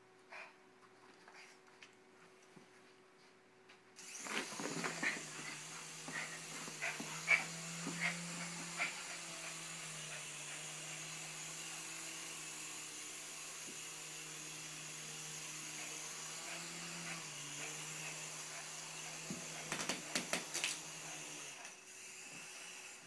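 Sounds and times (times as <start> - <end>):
toy helicopter whirring: 4.0 - 23.0.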